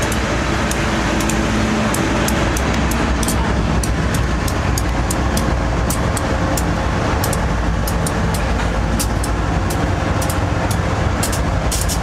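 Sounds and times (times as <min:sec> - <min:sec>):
diesel engine rumble: 0:00.0 - 0:12.0
sharp wheel clicks: 0:00.0 - 0:12.0
steel wheels rolling on rail: 0:00.0 - 0:12.0.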